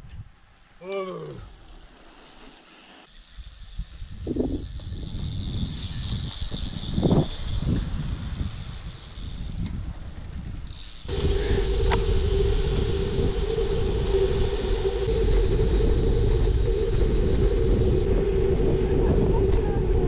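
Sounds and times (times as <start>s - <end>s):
outdoor ambience: 0.0s - 20.0s
wind rumble on microphone: 3.5s - 20.0s.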